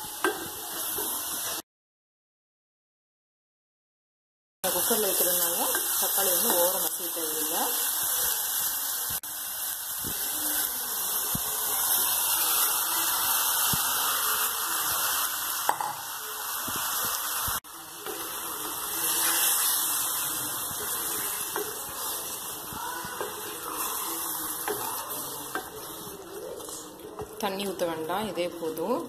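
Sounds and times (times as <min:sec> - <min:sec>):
onions sizzling in hot oil: 0:00.0 - 0:01.6, 0:04.6 - 0:29.0.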